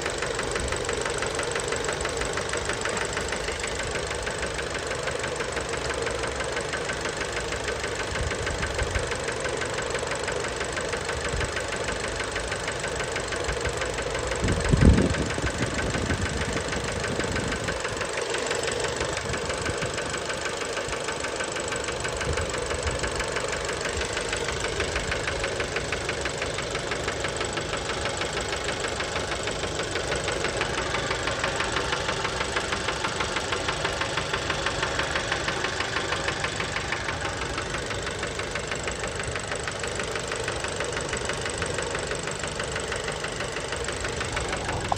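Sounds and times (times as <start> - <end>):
car engine with knocking rattle: 0.0 - 44.9.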